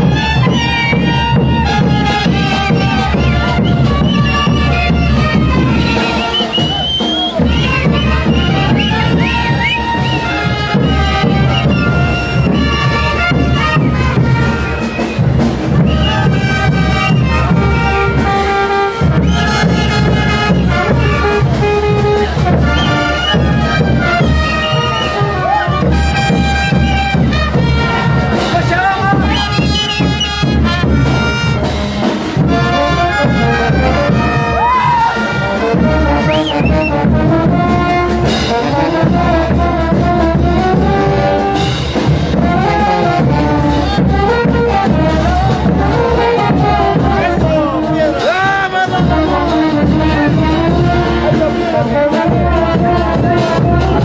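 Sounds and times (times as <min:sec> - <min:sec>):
brass band playing dance music: 0:00.0 - 0:54.0.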